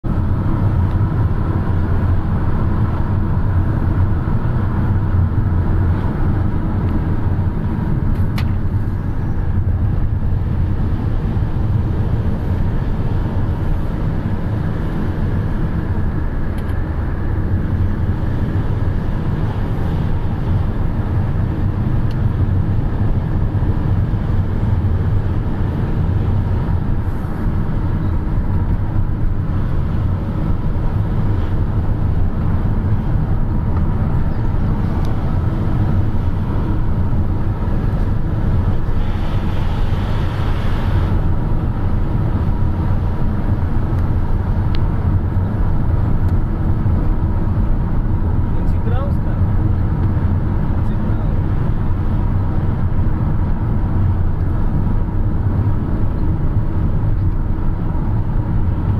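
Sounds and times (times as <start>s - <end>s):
motor vehicles rumbling: 0.0s - 58.9s.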